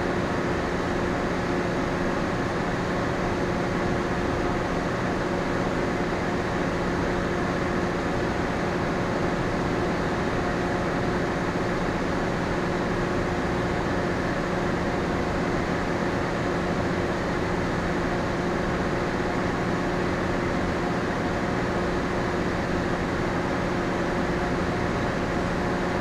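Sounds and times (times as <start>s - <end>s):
ship machinery and ventilation hum: 0.0s - 26.0s.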